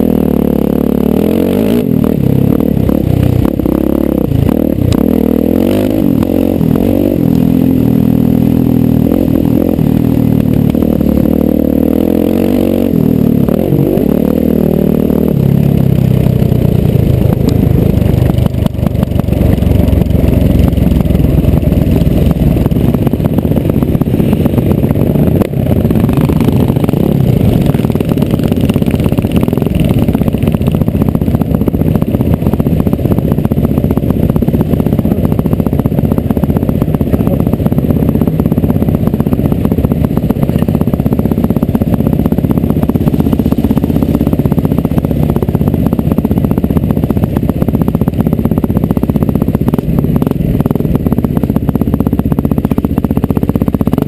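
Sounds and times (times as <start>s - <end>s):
dirt bike engine at low revs: 0.0s - 54.0s.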